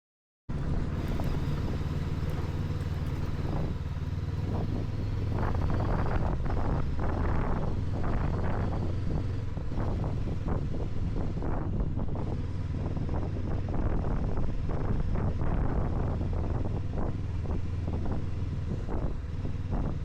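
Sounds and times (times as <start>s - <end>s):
motorcycle engine running: 0.5s - 20.0s
wind rushing over microphone: 0.5s - 20.0s.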